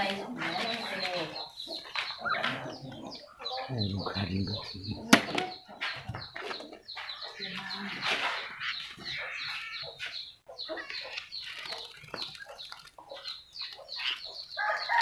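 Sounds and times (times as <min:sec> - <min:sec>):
fowl clucking and calling: 0:00.0 - 0:15.0.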